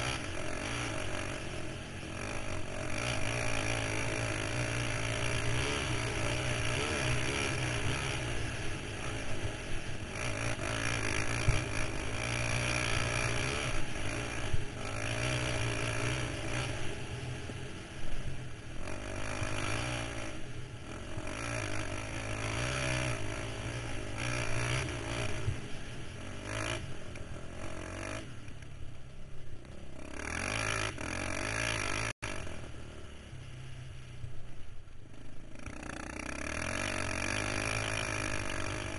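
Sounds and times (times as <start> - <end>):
quad engine revving: 0.0 - 28.4, 29.9 - 32.7, 35.4 - 38.9.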